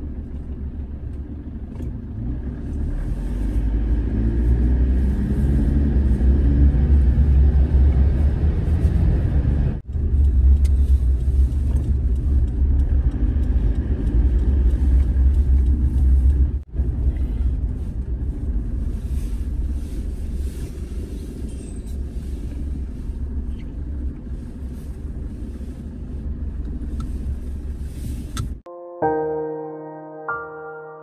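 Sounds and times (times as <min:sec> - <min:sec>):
car engine and road rumble: 0:00.0 - 0:28.7.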